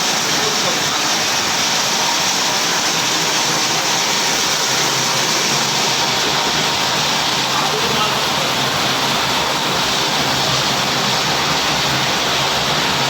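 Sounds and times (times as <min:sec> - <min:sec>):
machine steady rushing noise: 0:00.0 - 0:13.0.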